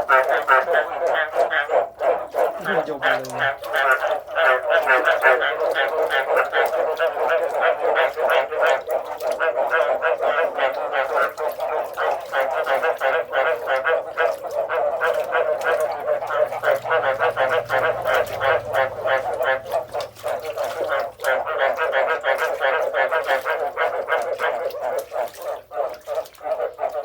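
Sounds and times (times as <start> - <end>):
frogs croaking: 0.0 - 27.0.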